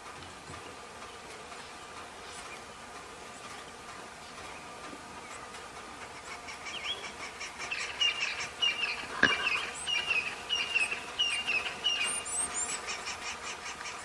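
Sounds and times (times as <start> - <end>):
bird chirping: 1.0 - 14.0.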